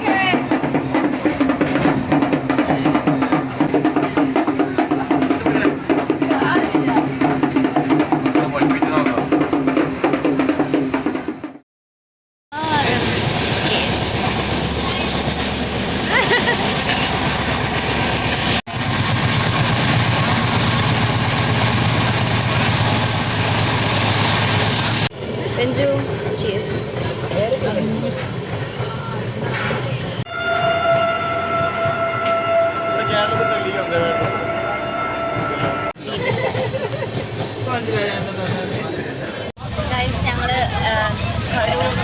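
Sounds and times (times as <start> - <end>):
train rumbling: 0.0 - 11.6, 12.5 - 42.0.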